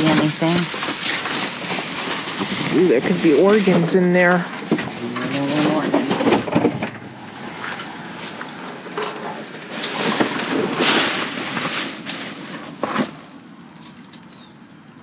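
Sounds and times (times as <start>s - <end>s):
trash rustling in dumpster: 0.0s - 13.6s.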